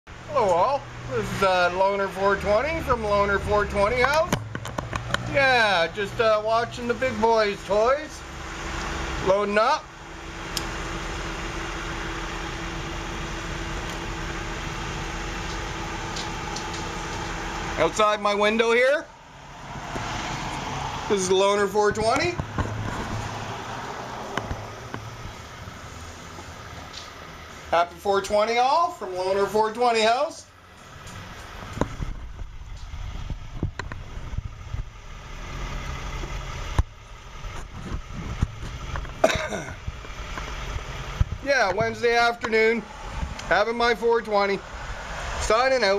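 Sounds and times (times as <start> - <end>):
heavy equipment engine running: 0.1 - 45.9.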